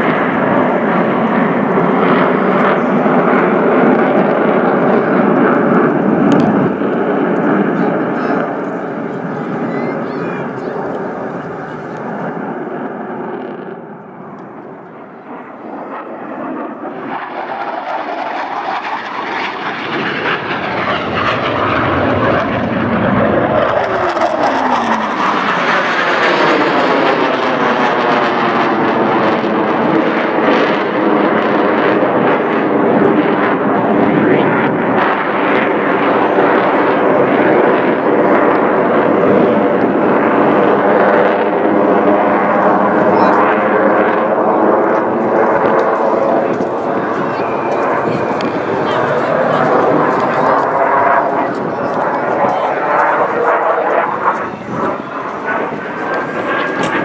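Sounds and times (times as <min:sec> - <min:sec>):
jet noise: 0:00.0 - 0:57.0.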